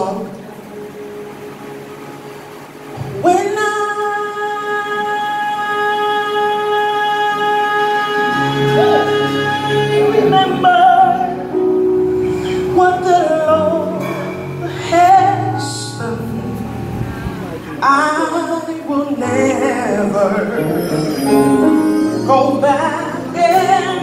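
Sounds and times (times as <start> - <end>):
woman singing gospel song: 0.0 - 0.4, 3.0 - 11.6, 12.5 - 16.8, 17.8 - 24.0
sustained instrumental chords: 0.0 - 24.0.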